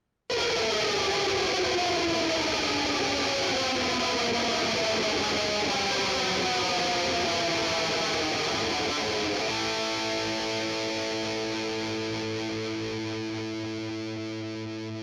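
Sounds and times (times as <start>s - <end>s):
distorted electric guitar chord: 0.3s - 15.0s.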